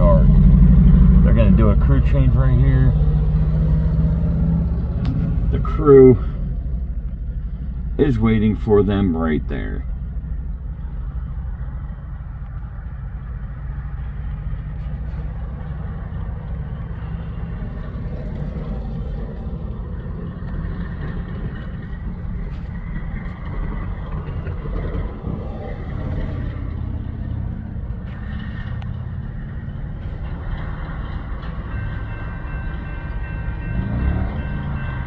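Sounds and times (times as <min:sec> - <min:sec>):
diesel locomotive rumble: 0:00.0 - 0:35.0
rolling train cars: 0:00.0 - 0:35.0.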